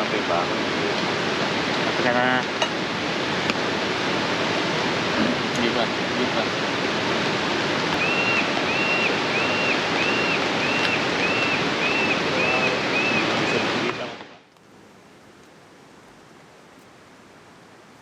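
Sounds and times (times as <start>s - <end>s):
faint hiss: 0.0s - 18.0s
river rushing: 0.0s - 18.0s.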